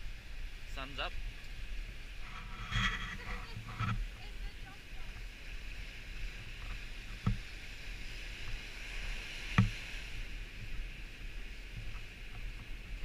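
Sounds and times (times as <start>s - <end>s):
surf waves washing ashore: 0.0s - 13.0s.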